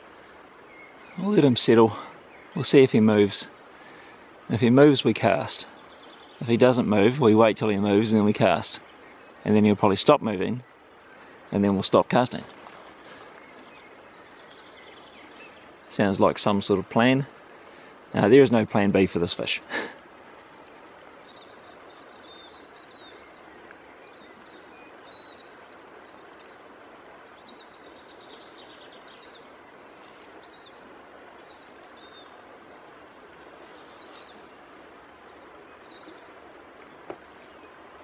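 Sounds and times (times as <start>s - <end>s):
river water rushing: 0.0s - 18.4s, 19.0s - 38.0s
small birds chirping: 0.0s - 38.0s.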